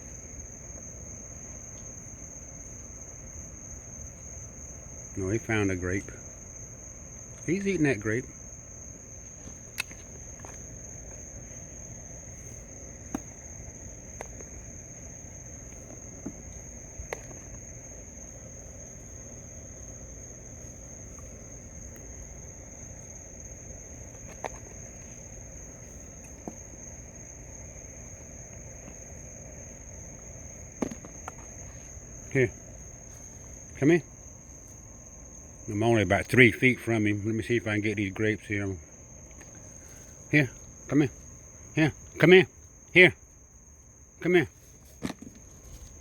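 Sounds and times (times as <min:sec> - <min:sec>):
night insects droning: 0:00.0 - 0:46.0.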